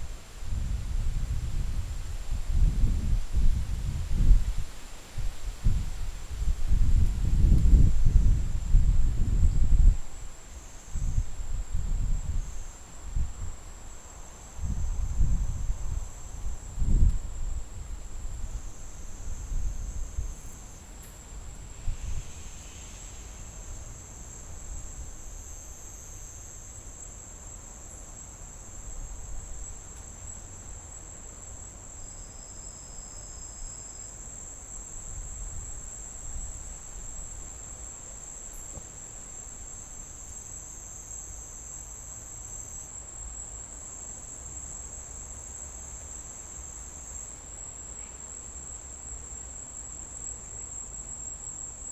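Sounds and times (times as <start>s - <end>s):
insects trilling: 0.5s - 51.9s.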